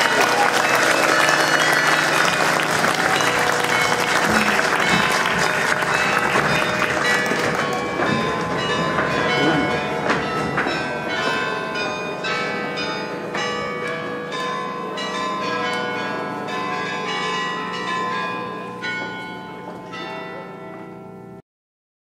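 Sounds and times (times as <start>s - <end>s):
church bells ringing: 0.0s - 21.4s.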